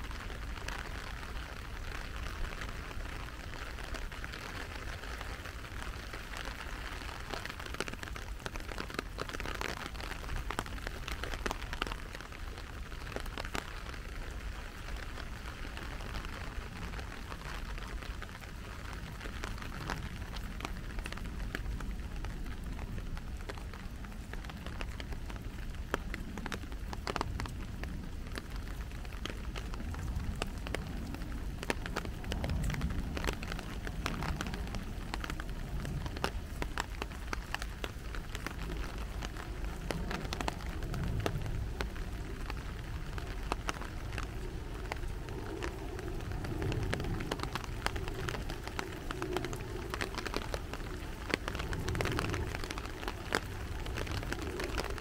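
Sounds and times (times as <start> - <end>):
raindrop taps: 0.0 - 55.0
steady rain hiss: 0.0 - 55.0.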